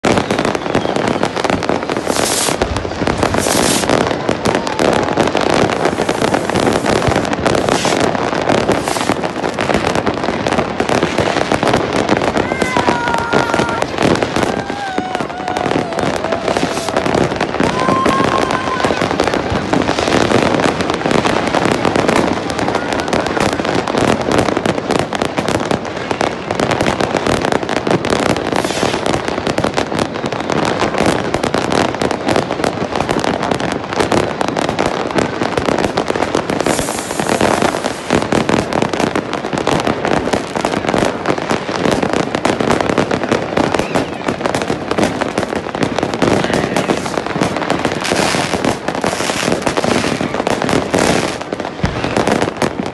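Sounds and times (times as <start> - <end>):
firecrackers cracking and banging: 0.0 - 52.9.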